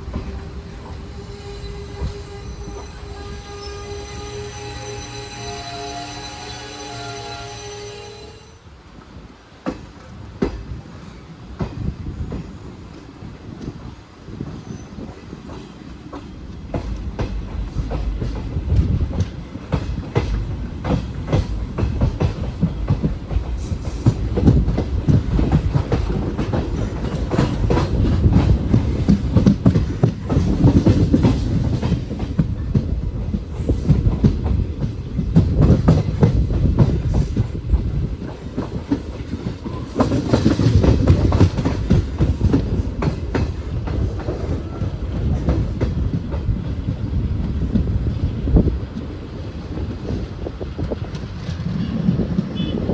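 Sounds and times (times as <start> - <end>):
train wheels clicking over rail joints: 9.6 - 52.6.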